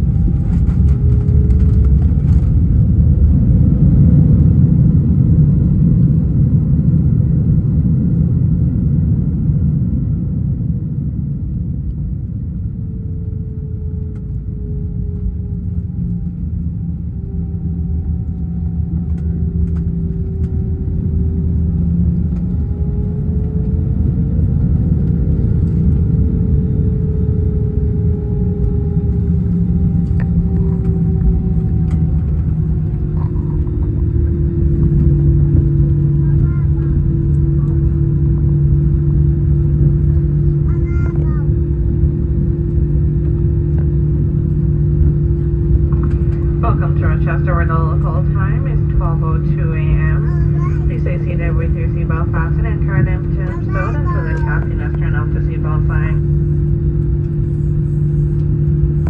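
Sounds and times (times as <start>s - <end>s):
faint jet engine whine: 0.0s - 59.0s
low rumble of wheels and airframe: 0.0s - 59.0s.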